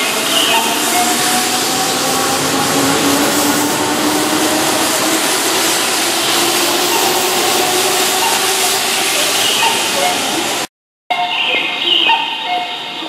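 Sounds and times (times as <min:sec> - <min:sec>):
train wheels running: 0:00.0 - 0:10.7.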